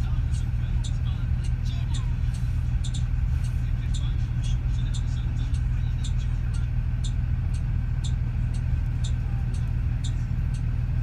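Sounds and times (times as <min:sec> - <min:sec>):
bus rumbling: 0:00.0 - 0:11.0
light regular ticking: 0:00.0 - 0:11.0.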